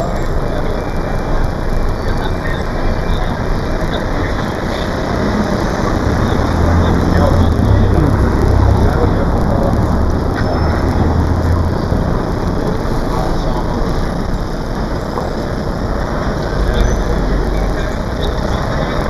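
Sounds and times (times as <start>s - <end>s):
street noise hiss: 0.0s - 19.0s
vehicle engine rumbling: 0.0s - 19.0s.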